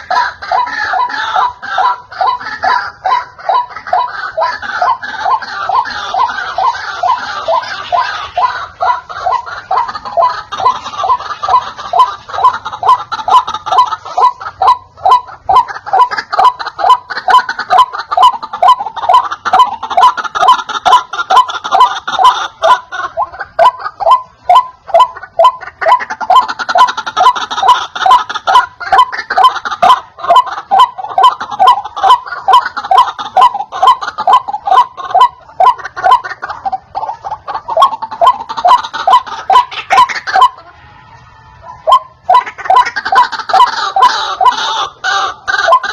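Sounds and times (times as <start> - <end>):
waterhen calling wak-wak: 0.0 - 45.9.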